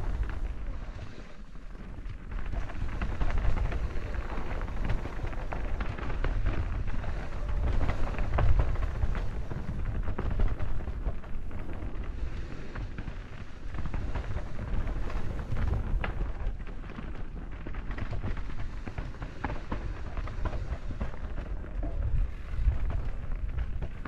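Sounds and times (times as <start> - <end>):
bike rattling: 0.0 - 24.0
tyres crackling on dirt: 0.0 - 24.0
wind rumbling on microphone: 0.0 - 24.0.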